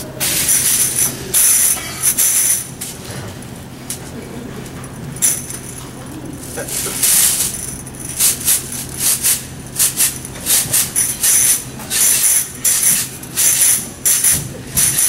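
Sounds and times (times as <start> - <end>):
tambourines shaken and struck: 0.2 - 3.0, 5.1 - 15.0.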